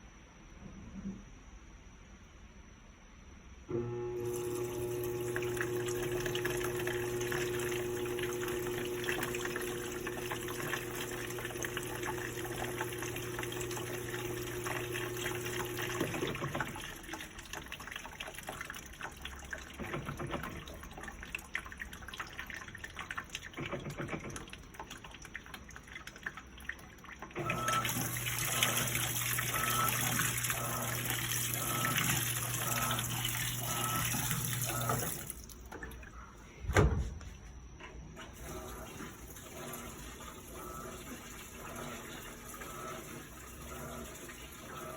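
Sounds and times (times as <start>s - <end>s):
water running in: 3.8s - 36.2s, 38.3s - 44.9s.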